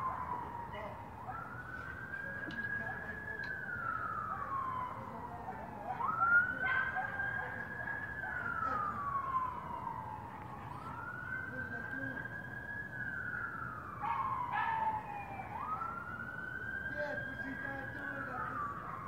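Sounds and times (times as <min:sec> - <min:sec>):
police siren wailing: 0:00.0 - 0:19.0.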